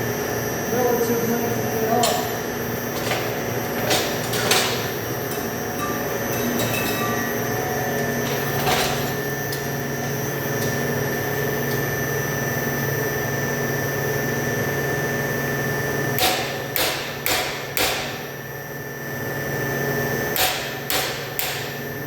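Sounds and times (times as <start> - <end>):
shop machinery droning: 0.0 - 22.0.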